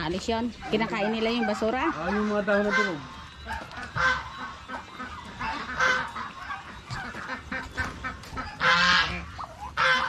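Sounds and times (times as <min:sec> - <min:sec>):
waterfowl honking: 0:00.0 - 0:10.0.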